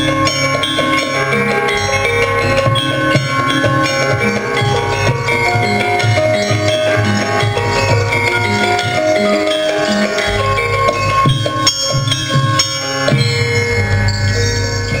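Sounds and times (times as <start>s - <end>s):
gongs ringing: 0.0s - 15.0s
metallophone keys ringing: 0.0s - 15.0s
steady drumming: 0.0s - 15.0s.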